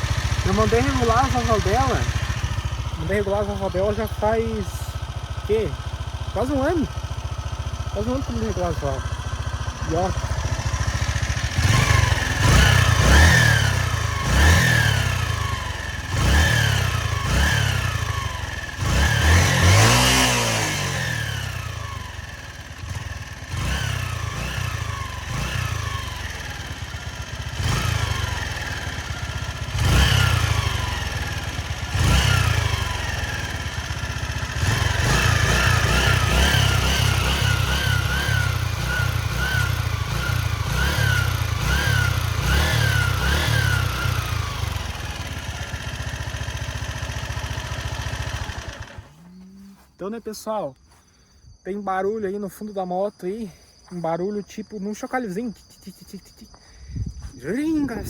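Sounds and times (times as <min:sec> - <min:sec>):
faint engine rattle: 0:00.0 - 0:51.4
motorcycle engine idling and revving: 0:00.0 - 0:58.0.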